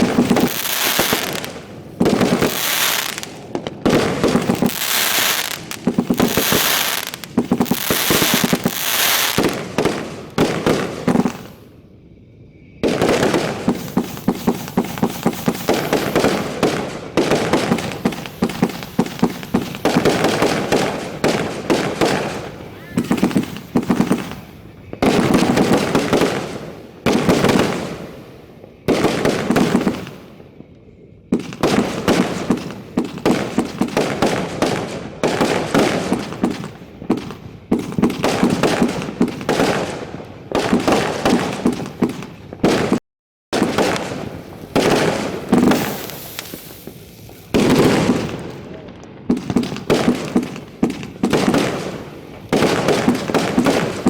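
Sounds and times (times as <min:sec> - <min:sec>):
crackling firework pops: 0:00.0 - 0:11.7, 0:12.8 - 0:43.0, 0:43.6 - 0:54.0
firework bangs: 0:00.0 - 0:11.7, 0:12.7 - 0:30.7, 0:31.3 - 0:54.0.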